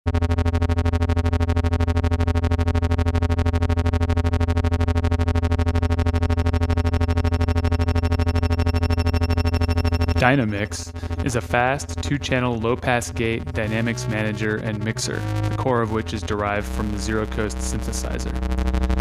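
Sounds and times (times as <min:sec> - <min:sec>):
pulsing synthesizer drone: 0:00.1 - 0:19.0.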